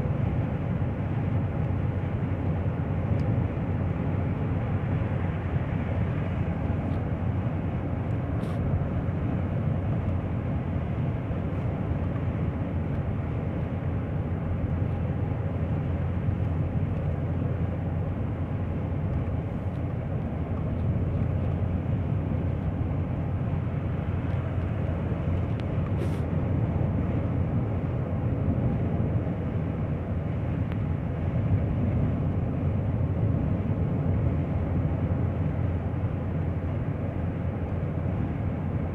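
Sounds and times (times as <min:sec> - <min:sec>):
road noise: 0:00.0 - 0:38.9.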